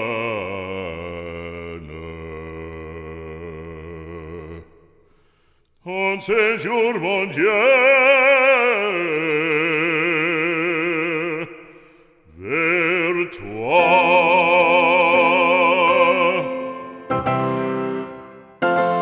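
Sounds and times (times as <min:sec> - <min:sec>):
operatic singing with vibrato: 0:00.0 - 0:05.0, 0:05.8 - 0:19.0.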